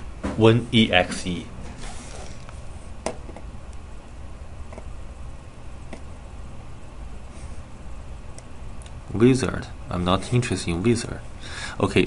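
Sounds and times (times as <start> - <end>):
microphone and room hum: 0.0 - 12.0.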